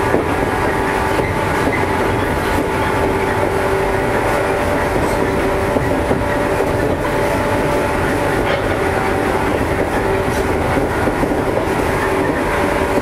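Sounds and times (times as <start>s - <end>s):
faint rail-joint clicks: 0.0s - 13.0s
steady train hum: 0.0s - 13.0s
train wheels rumbling on rail: 0.0s - 13.0s.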